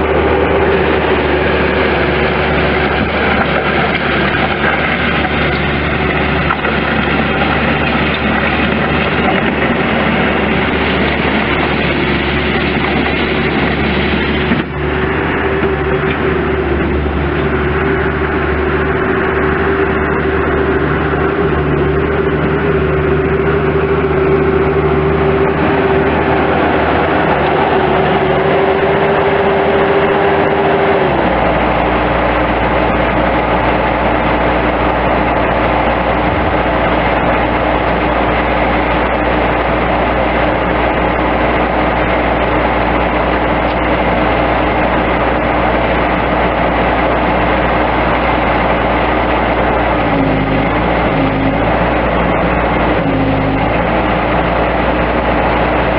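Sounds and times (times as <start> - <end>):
loader diesel engine whining: 0.0 - 55.9.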